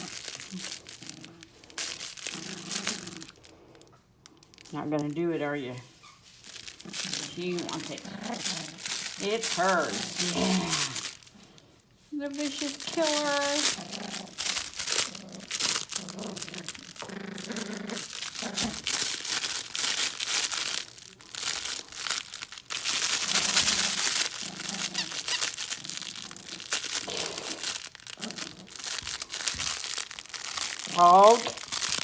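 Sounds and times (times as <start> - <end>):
crinkle paper toy crackling: 0.0 - 32.0.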